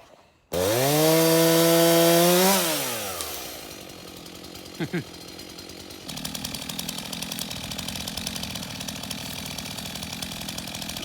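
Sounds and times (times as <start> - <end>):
chainsaw cutting through tree: 0.5 - 11.0
chainsaw running at full throttle: 0.5 - 11.0.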